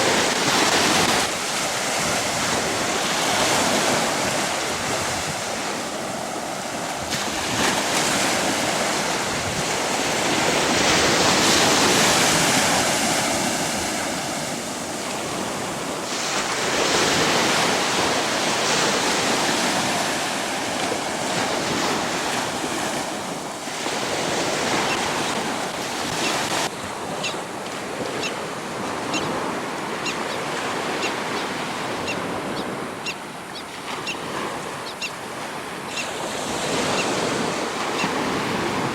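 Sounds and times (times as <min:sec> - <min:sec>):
surf washing onto beach: 0:00.0 - 0:38.9
wind on microphone: 0:00.0 - 0:38.9.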